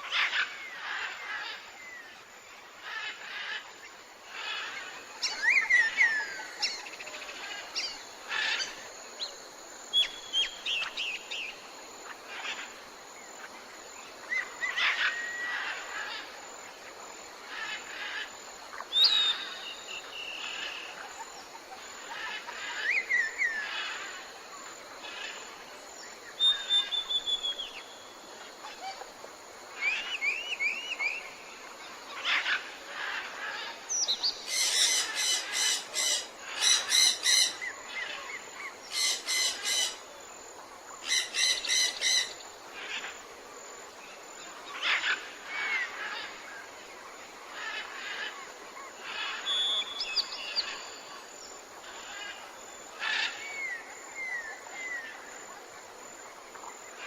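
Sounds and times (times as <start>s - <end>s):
forest birds chirping and trilling: 0.0s - 57.0s
high background hiss: 0.0s - 57.0s.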